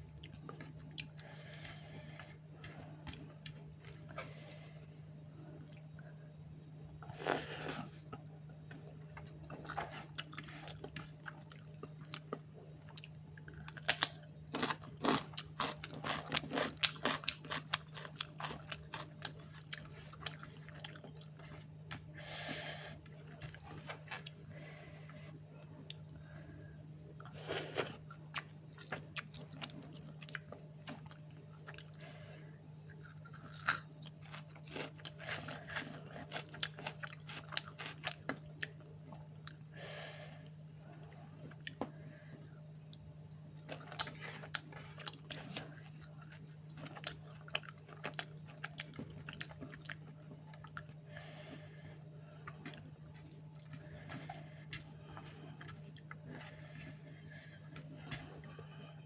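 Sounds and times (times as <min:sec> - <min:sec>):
steady low hum: 0:00.0 - 0:59.0
person chewing food: 0:00.2 - 0:06.0, 0:07.0 - 0:32.2, 0:32.8 - 0:59.0.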